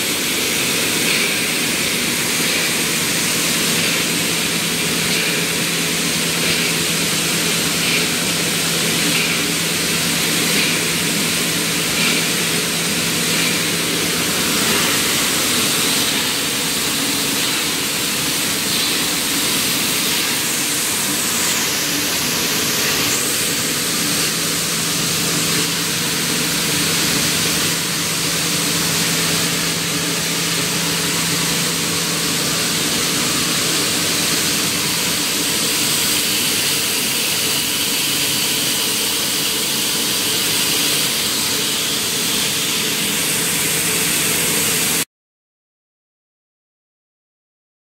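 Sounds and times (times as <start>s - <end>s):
conveyor machinery humming: 0.0s - 45.0s.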